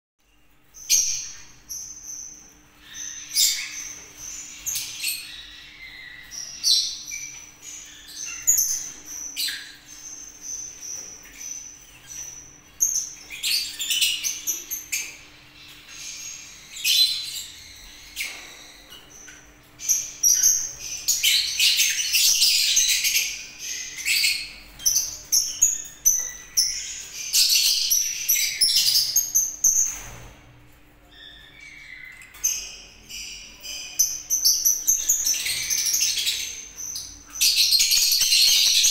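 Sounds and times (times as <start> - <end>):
cage birds chirping: 0.2 - 38.9.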